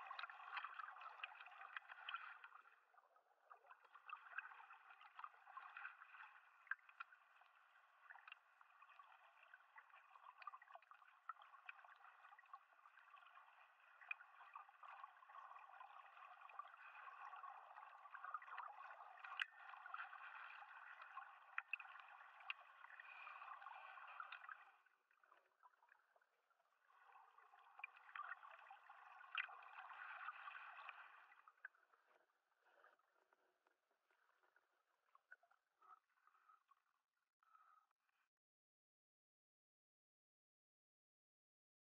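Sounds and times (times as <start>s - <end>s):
underwater clicks and crackles: 0.0s - 38.2s.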